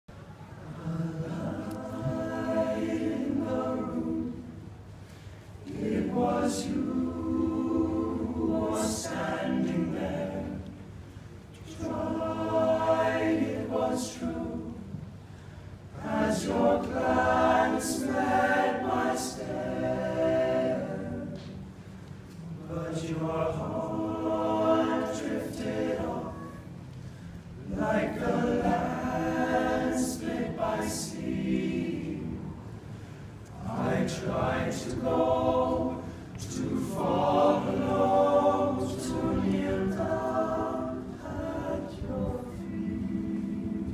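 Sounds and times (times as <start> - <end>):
male a cappella group singing: 0.7 - 4.6, 5.6 - 10.9, 11.6 - 15.3, 16.0 - 21.8, 22.5 - 26.8, 27.6 - 32.9, 33.5 - 43.9.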